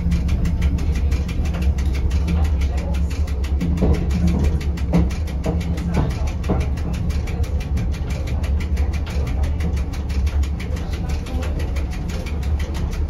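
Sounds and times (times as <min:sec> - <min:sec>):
train rumbling with fast ticking: 0:00.0 - 0:13.0.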